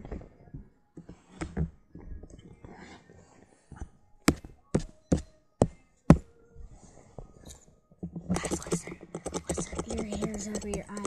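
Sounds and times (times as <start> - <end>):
faint rustling and handling noise: 0.0 - 11.0.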